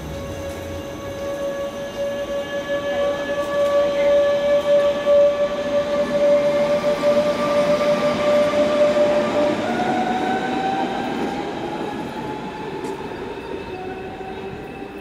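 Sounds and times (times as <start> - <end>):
train wheels running: 0.0 - 13.4.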